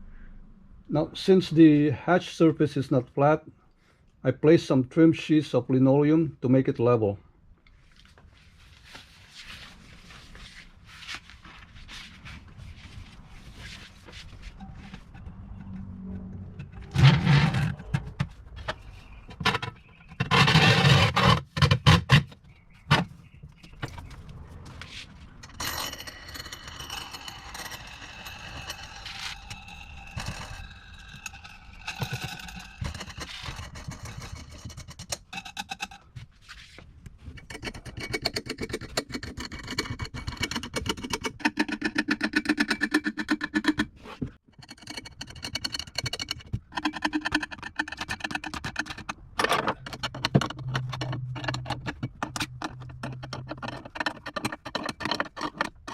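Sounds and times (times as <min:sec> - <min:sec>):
parts scraping and knocking: 0:08.0 - 0:55.9.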